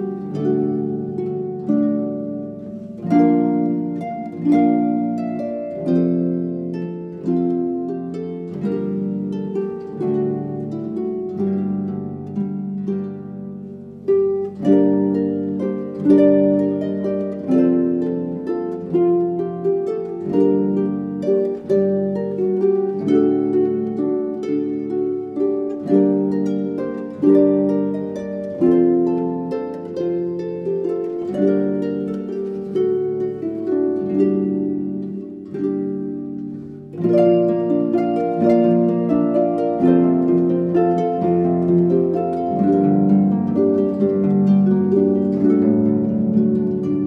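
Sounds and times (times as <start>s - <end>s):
harps playing: 0.0s - 47.0s.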